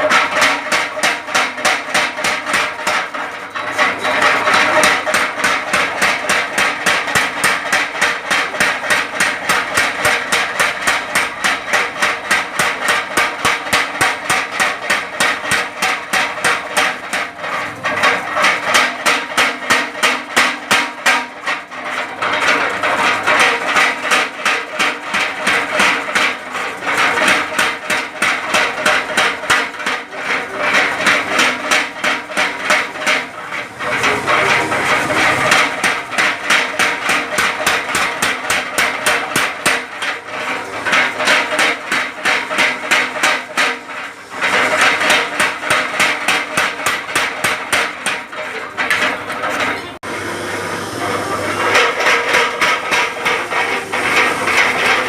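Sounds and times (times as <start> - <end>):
hammers striking metal on anvil: 0.0 - 50.1, 51.0 - 55.0.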